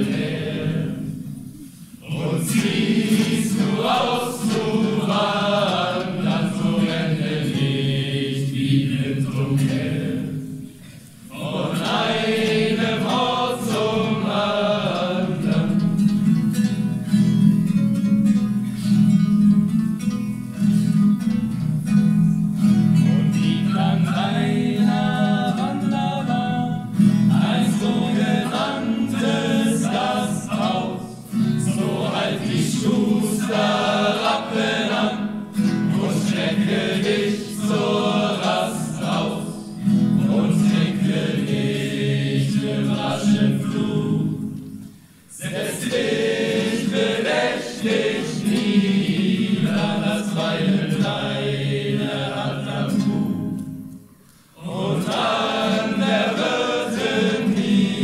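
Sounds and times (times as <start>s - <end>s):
boys singing together: 0.0s - 16.6s, 23.0s - 44.6s, 45.3s - 53.8s, 54.6s - 58.0s
strummed acoustic guitar: 0.0s - 58.0s.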